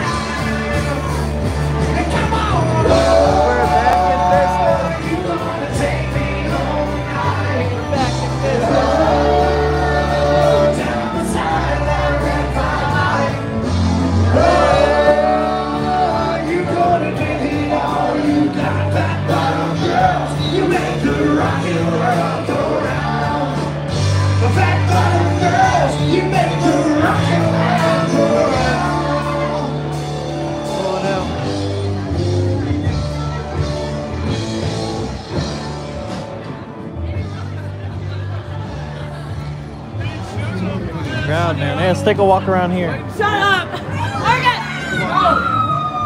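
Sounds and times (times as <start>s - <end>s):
band playing with singer: 0.0s - 46.0s
bass line: 0.0s - 46.0s.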